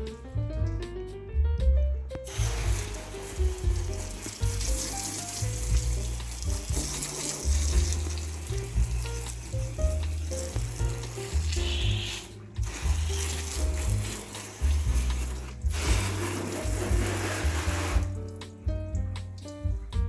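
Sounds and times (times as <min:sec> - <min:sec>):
jazz music with walking bass: 0:00.0 - 0:20.0
water spraying hiss: 0:02.2 - 0:19.8.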